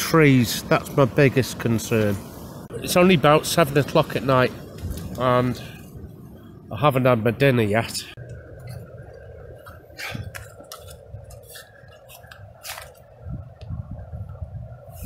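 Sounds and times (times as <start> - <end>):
wind buffeting microphone: 0.5 - 6.8, 8.2 - 15.0.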